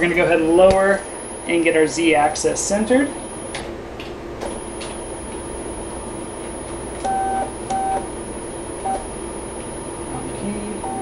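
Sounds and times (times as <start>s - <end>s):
machine low hum: 0.0s - 11.0s
stepper motor whine: 0.0s - 11.0s.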